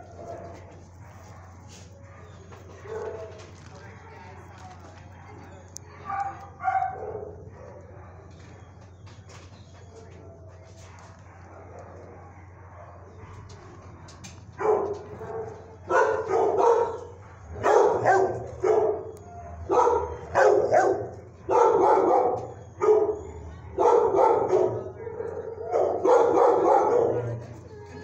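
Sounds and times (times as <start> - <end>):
dog barking: 0.0 - 8.6, 10.8 - 28.0.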